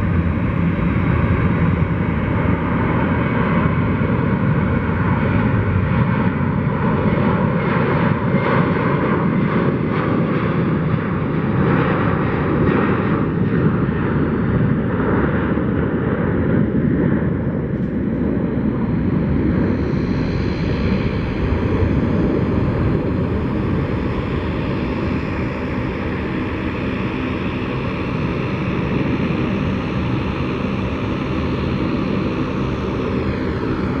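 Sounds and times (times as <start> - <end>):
high fan whine: 0.0 - 8.3, 13.2 - 34.0
jet engines roaring: 0.0 - 34.0.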